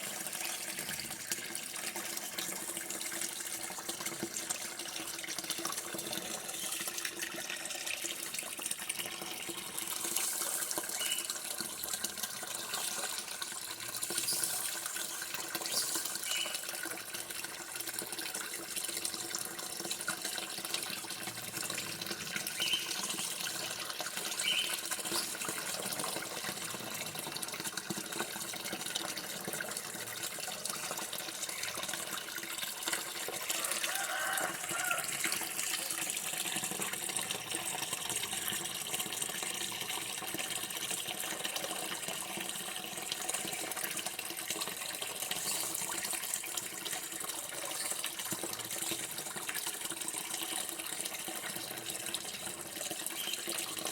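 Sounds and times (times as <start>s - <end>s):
water running from a tap: 0.0s - 53.9s.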